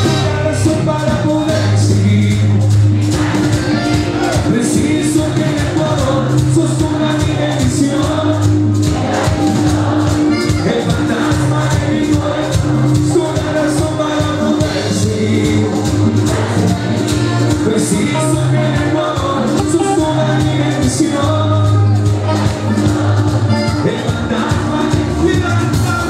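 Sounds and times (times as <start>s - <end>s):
band percussion beat: 0.0s - 26.0s
bass line: 0.0s - 26.0s
man singing into microphone: 0.0s - 26.0s.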